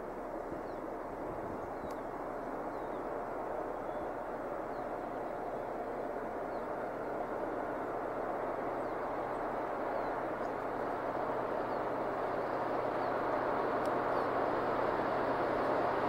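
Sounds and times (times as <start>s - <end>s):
diesel locomotive engine humming: 0.0s - 16.0s.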